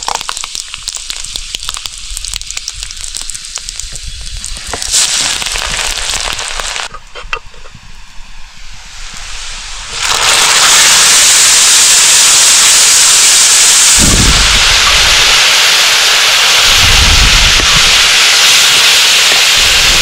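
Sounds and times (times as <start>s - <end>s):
food frying in oil: 0.0s - 6.9s, 9.3s - 20.0s.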